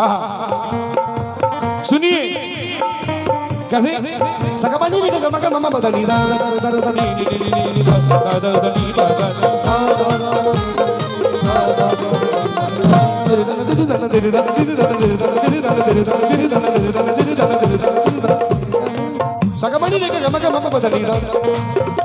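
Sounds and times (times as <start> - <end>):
rapid hand-drum strokes: 0.7 - 22.0.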